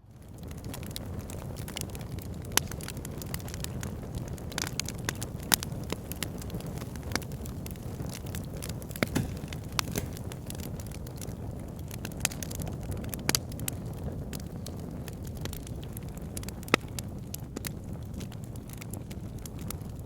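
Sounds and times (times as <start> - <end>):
fire burning with low rumble: 0.0 - 20.0
fire crackling and popping: 0.0 - 20.0.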